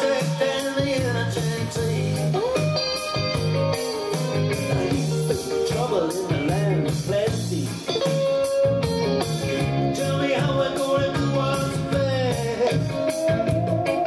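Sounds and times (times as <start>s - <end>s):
guitar lead with bending notes: 0.0s - 14.0s
repeating bass line: 0.8s - 14.0s.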